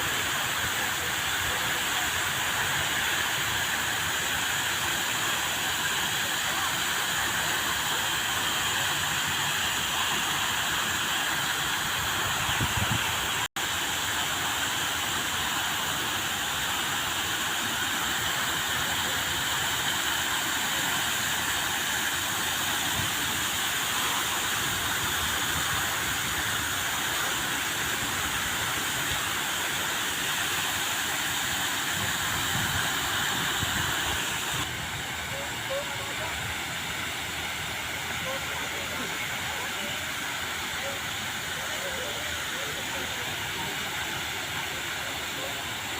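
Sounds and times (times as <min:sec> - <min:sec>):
waterfall splashing: 0:00.0 - 0:45.9.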